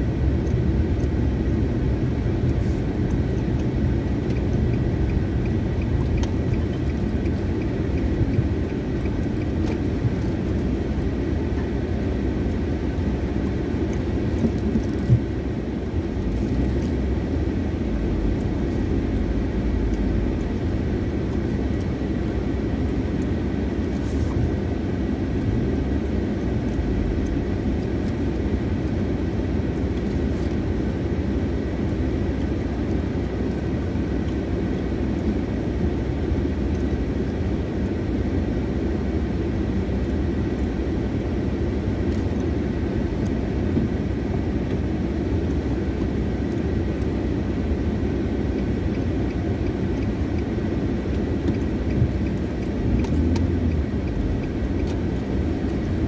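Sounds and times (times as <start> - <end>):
car engine idling in cabin: 0.0 - 56.0.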